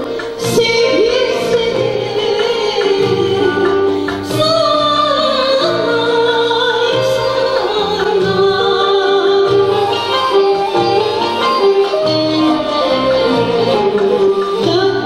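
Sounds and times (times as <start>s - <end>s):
classical music ensemble: 0.0s - 15.0s
woman singing: 0.0s - 15.0s.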